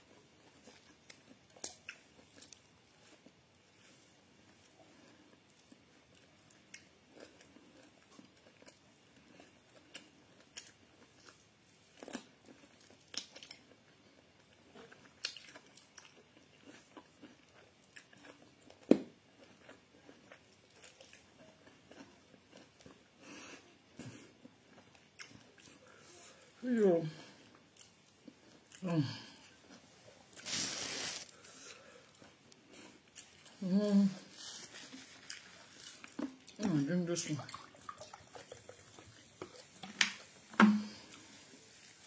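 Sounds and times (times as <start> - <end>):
person chewing food: 0.0 - 33.7, 34.3 - 36.8, 37.5 - 42.0.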